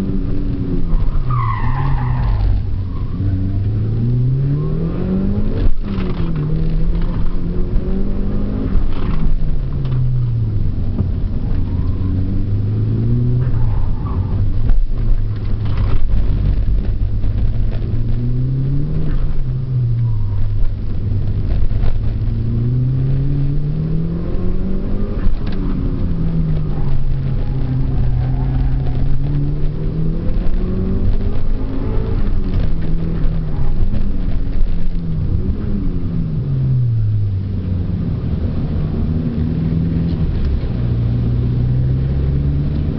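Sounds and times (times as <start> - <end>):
turbocharged car engine accelerating: 0.0 - 42.9.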